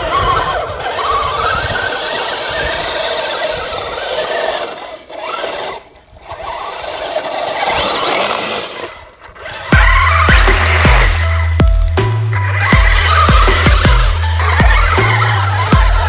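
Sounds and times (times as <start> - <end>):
toy truck electric motor whining: 0.0 - 16.0.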